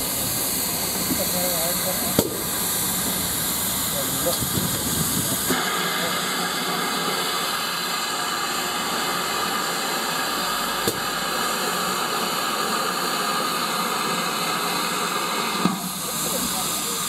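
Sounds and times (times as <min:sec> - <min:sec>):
steam hissing from locomotive: 0:00.0 - 0:17.0.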